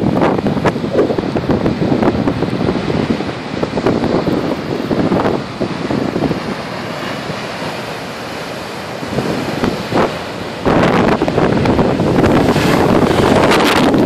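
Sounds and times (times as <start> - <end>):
strong wind: 0.0 - 14.0
surf breaking on beach: 0.0 - 14.0
wind gusts buffeting microphone: 0.0 - 14.0.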